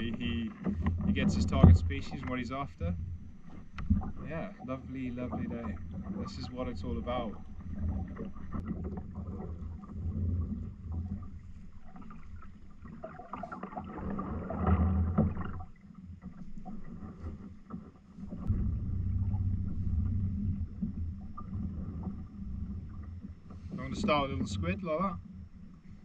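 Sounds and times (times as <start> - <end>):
low rumble of water: 0.0 - 26.0.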